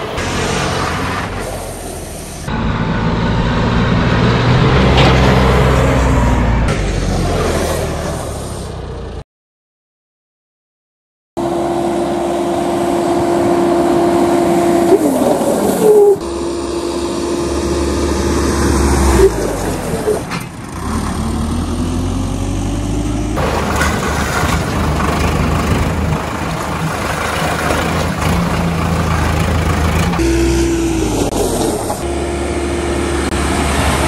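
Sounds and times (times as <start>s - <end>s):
tractor diesel engine running: 0.0s - 9.2s, 11.4s - 34.0s.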